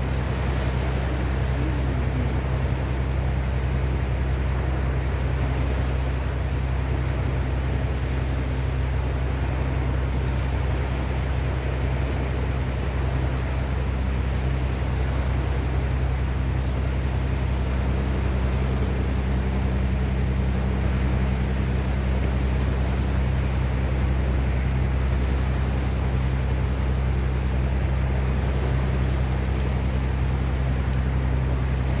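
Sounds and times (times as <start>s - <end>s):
constant low hum: 0.0s - 32.0s
sea waves washing: 0.0s - 32.0s
wind: 0.0s - 32.0s.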